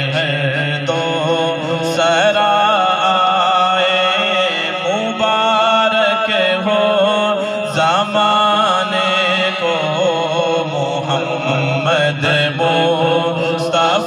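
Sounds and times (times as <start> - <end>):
hummed vocal drone: 0.0 - 14.0
man singing into a microphone: 0.0 - 14.0.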